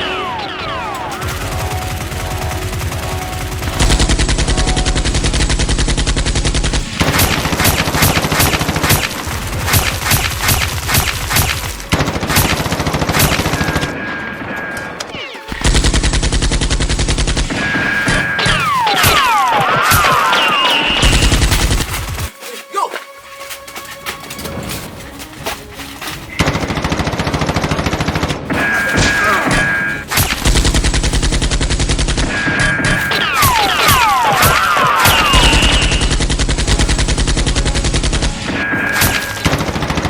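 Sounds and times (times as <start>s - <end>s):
automatic gunfire: 0.0s - 22.3s, 26.4s - 40.0s.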